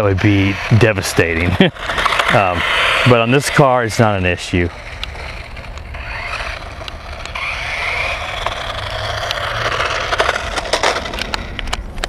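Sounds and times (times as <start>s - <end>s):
rc car motor whining: 0.0s - 12.0s
tyres scraping ground: 0.0s - 12.0s.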